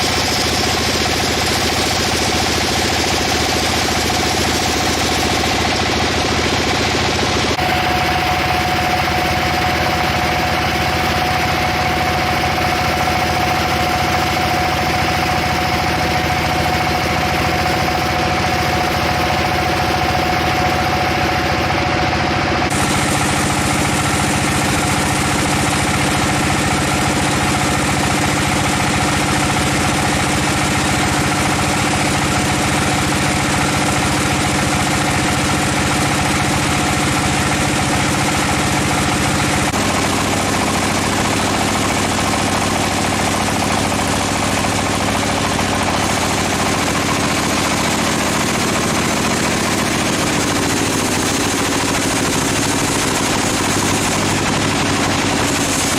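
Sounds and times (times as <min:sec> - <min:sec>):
sawmill machinery humming: 0:00.0 - 0:55.9.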